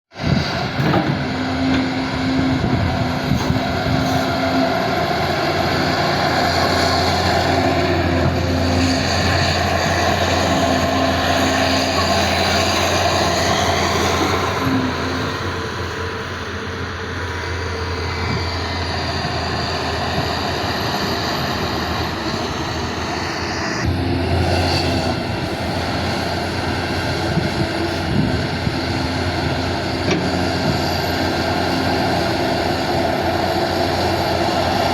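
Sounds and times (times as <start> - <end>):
excavator engine running: 0.2 - 34.9
higher mechanical drone: 0.2 - 34.9.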